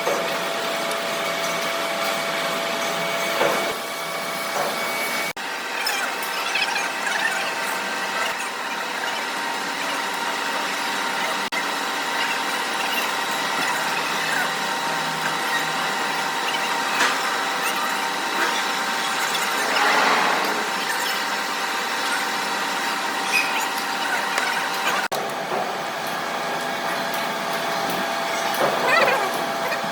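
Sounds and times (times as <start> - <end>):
workshop machinery drone: 0.0 - 29.9.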